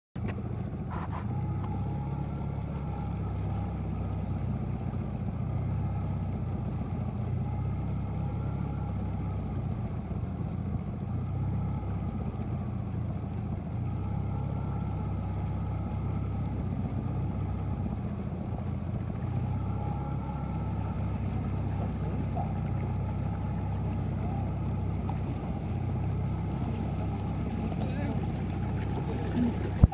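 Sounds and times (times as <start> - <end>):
outboard motors running: 0.2 - 29.9
wavering engine whine: 0.2 - 29.9.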